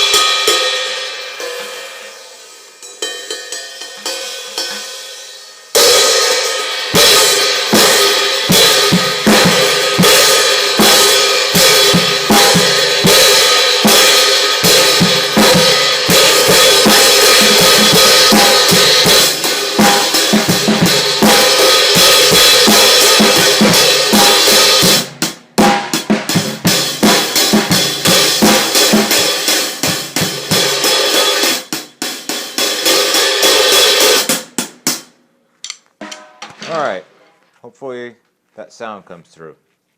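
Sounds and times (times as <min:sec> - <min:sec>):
drum kit groove: 0:00.0 - 0:37.4.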